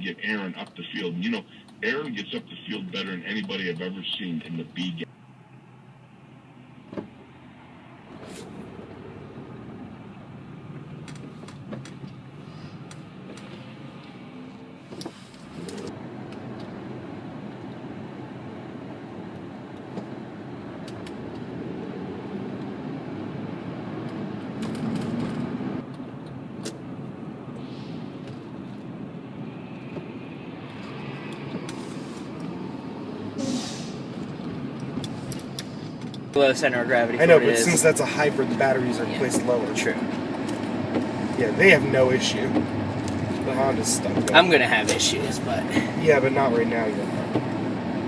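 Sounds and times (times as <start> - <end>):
car road and engine noise: 0.0 - 48.0.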